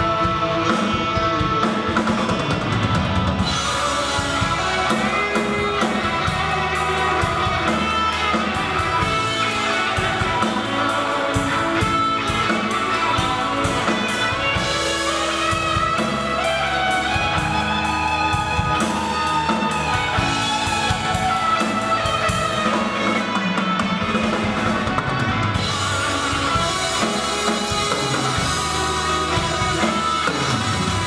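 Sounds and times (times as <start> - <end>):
electric guitar: 0.0 - 31.0.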